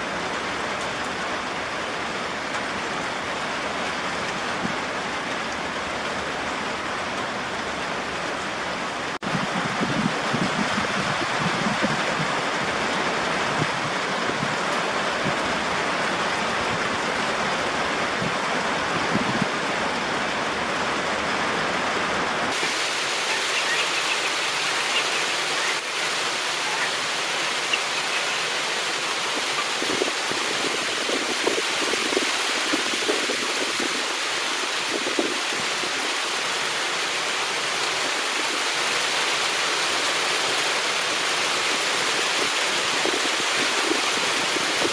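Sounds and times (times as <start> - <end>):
rain falling: 0.0 - 44.9.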